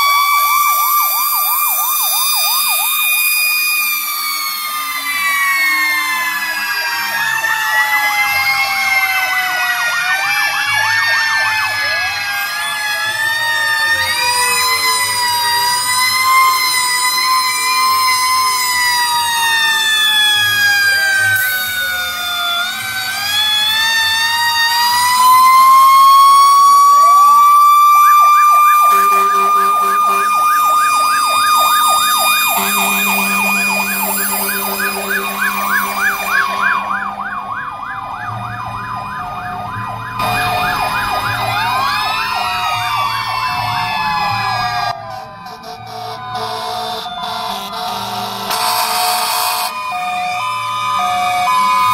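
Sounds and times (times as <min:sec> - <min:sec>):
fire truck siren wailing and yelping: 0:00.0 - 0:51.9.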